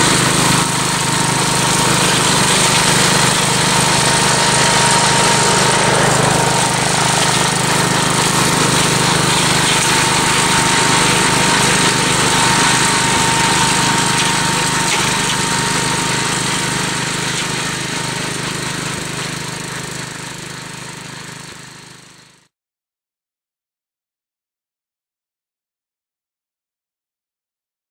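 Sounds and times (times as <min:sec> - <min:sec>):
walk-behind tractor engine running: 0:00.0 - 0:22.4.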